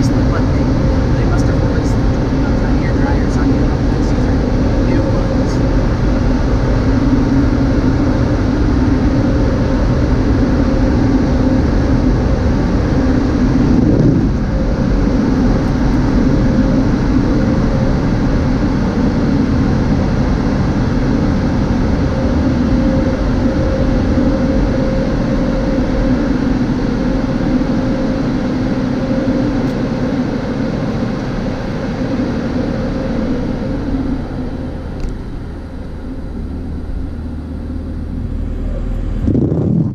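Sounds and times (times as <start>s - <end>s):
car wash blower dryers roaring: 0.0s - 39.9s.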